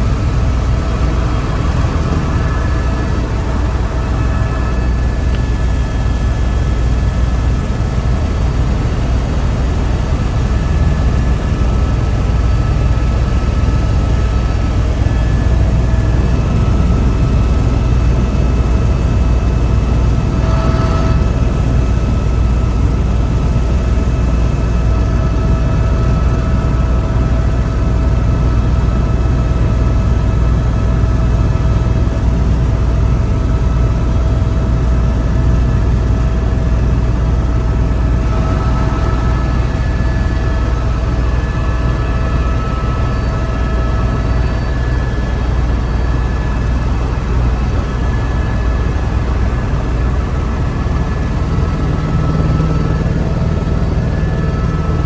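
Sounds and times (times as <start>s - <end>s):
helicopter cabin drone: 0.0s - 55.0s
thin steady whine: 0.0s - 55.0s.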